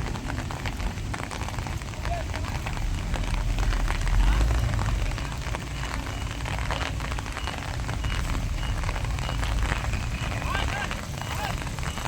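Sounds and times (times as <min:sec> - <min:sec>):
dense crackling: 0:00.0 - 0:12.0
diesel machinery rumbling: 0:00.0 - 0:12.0.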